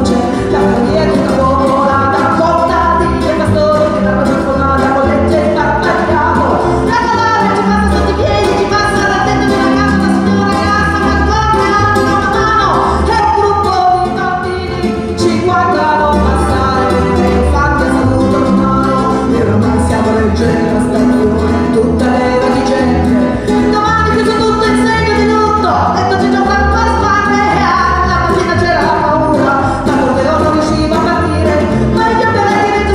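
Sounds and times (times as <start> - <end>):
accordion: 0.0 - 32.9
double bass walking bass line: 0.0 - 32.9
guitar: 0.0 - 32.9
woman singing a folk ballad: 0.0 - 32.9.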